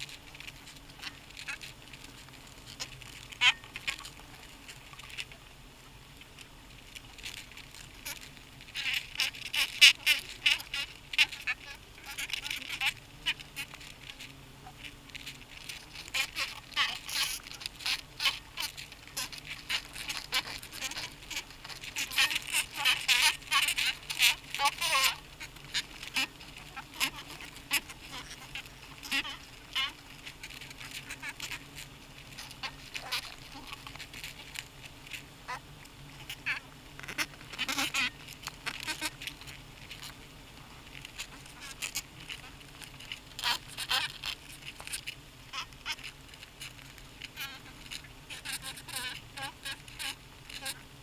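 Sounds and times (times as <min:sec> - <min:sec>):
bees buzzing and scratching: 0:00.0 - 0:51.0.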